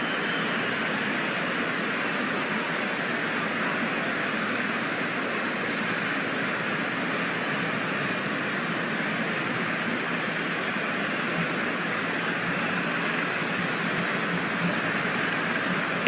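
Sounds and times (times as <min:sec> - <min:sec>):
stadium crowd noise: 0:00.0 - 0:16.0.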